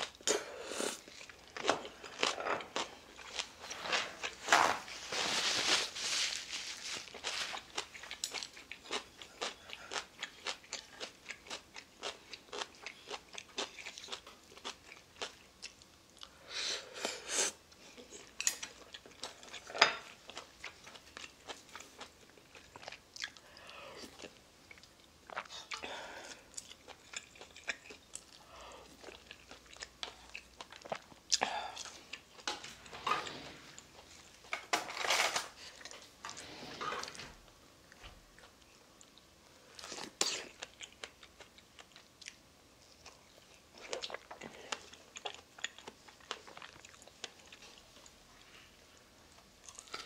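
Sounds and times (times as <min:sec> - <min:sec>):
chewing and crunching food: 0:00.0 - 0:16.4, 0:17.0 - 0:37.3, 0:37.9 - 0:50.0.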